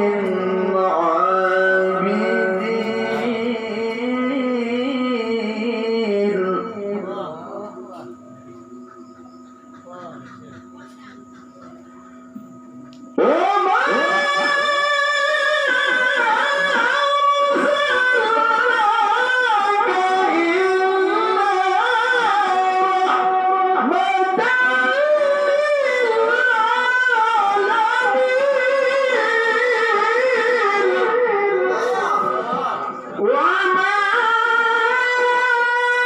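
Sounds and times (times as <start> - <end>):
person reciting melodically: 0.0 - 12.3, 13.2 - 36.0.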